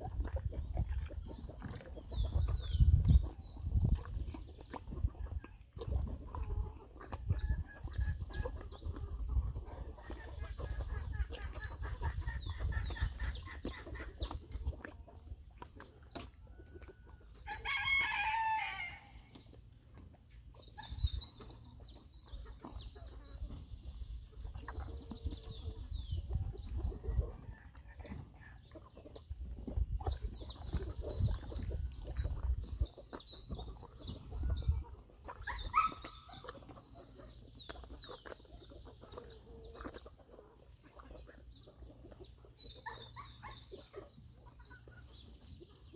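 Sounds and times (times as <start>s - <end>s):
chickens clucking: 0.0s - 45.9s
birds chirping: 0.2s - 45.9s.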